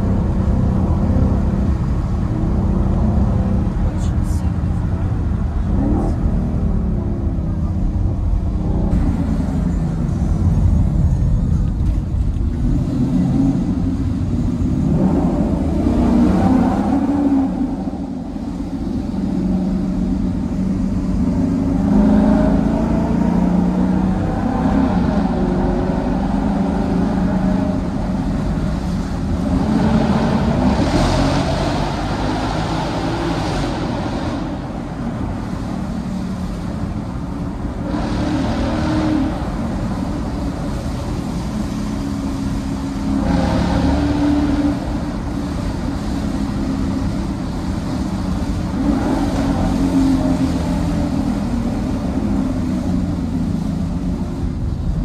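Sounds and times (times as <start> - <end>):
car engine revving: 0.0 - 54.9
road rumble: 0.0 - 55.0.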